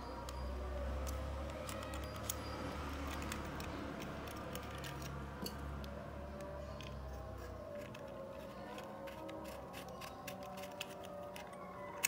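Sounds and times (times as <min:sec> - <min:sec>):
small metallic clicks: 0:00.2 - 0:12.0.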